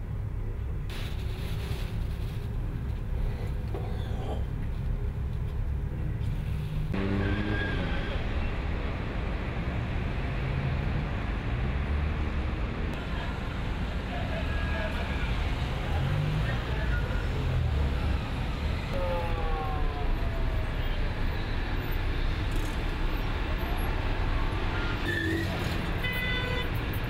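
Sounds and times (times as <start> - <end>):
cars driving along a street: 0.0 - 27.0.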